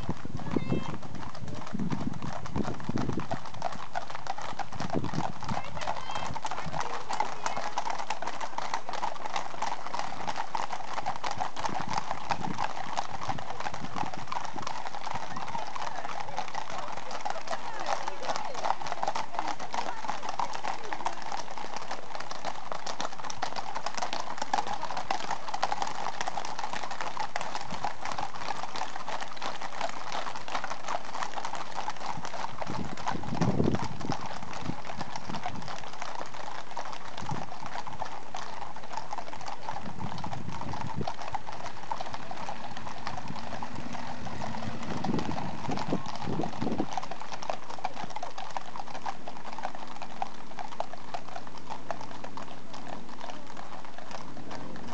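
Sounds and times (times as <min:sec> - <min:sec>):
horses hooves clip-clopping on road: 0:00.0 - 0:54.9.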